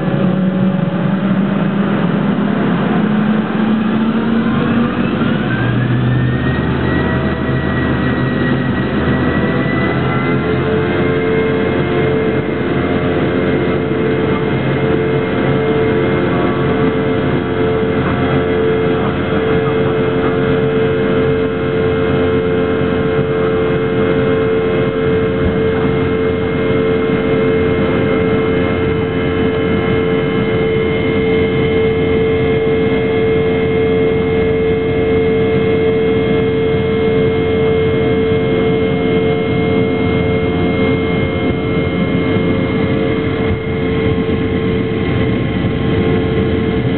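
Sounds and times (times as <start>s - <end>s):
jet engines droning: 0.0s - 46.9s.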